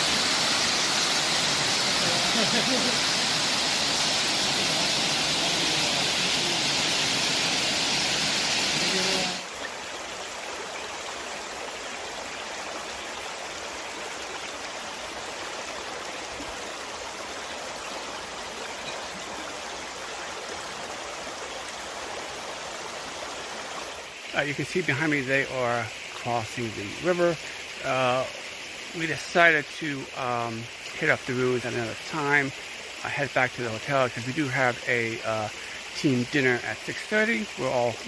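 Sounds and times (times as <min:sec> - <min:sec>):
waterfall and stream rushing: 0:00.0 - 0:38.0.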